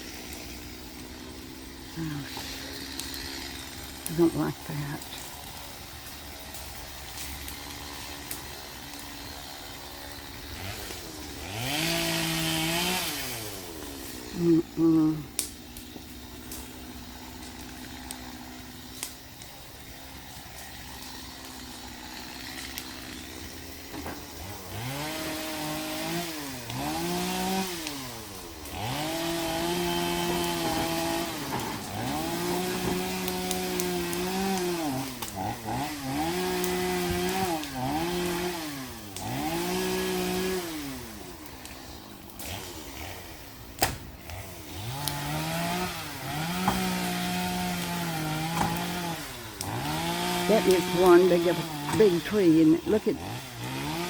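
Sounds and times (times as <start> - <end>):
chainsaw engine idling and revving: 0.0 - 54.0.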